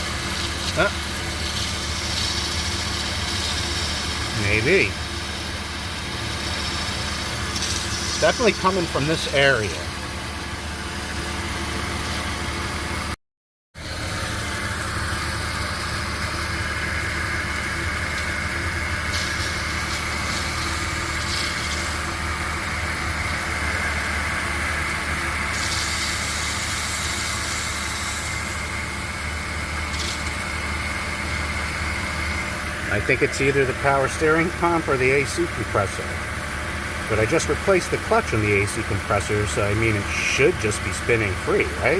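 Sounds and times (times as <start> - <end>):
high-pitched belt whine: 0.0 - 13.1, 13.8 - 41.9
car engine idling: 0.0 - 13.2, 13.8 - 41.9.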